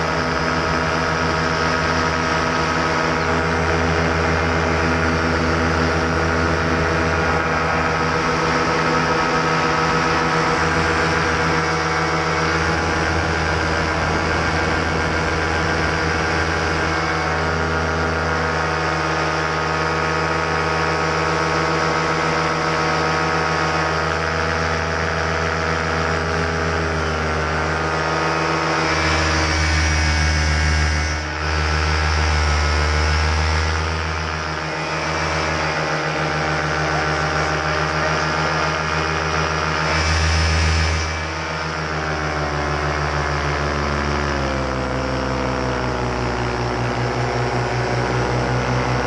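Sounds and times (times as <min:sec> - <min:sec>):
paramotor engine and propeller: 0:00.0 - 0:49.0.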